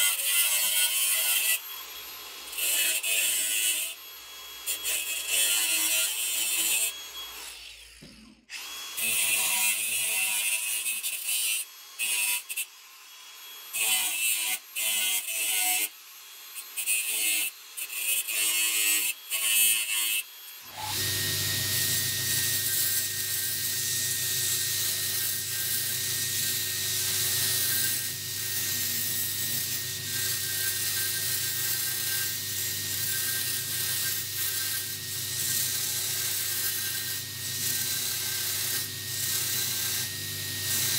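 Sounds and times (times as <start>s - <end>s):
angle grinder cutting steel: 0.0s - 40.9s
belt grinder grinding metal: 0.0s - 40.9s.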